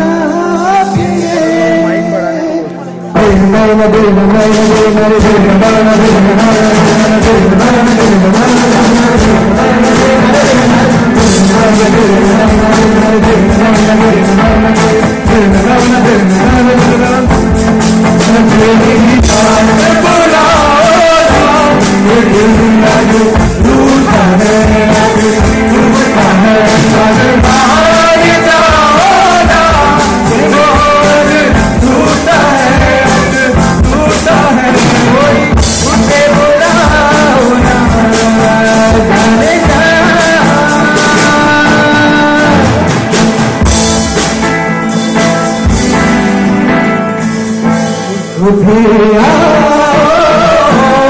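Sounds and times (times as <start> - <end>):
person singing: 0.0 - 43.6, 47.0 - 51.0
live band playing: 0.0 - 51.0.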